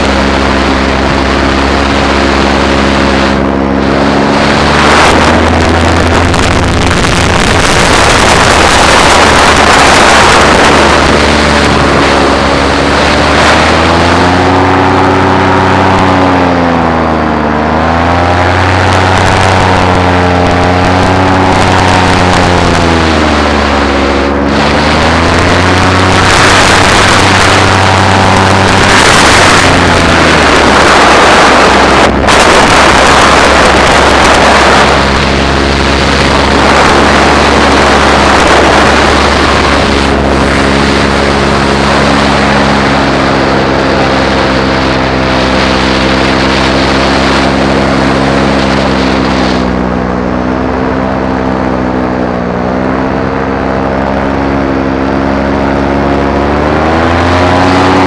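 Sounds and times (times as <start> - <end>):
paramotor engine and propeller: 0.0 - 58.0
wind noise on microphone: 0.0 - 58.0.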